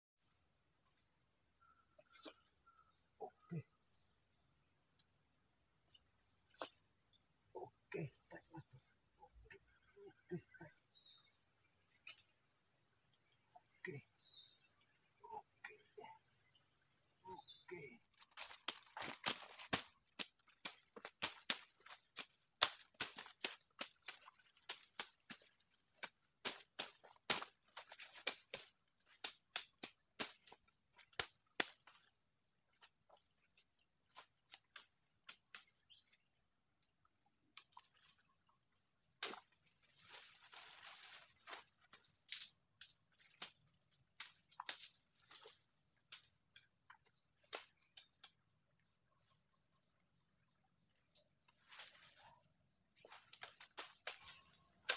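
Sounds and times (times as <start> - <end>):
insect chorus drone: 0.2 - 54.9.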